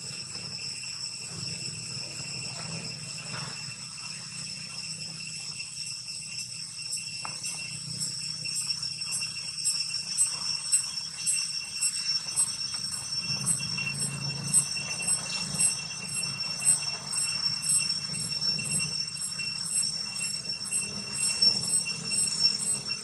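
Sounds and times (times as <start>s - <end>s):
insects buzzing: 0.0s - 23.0s.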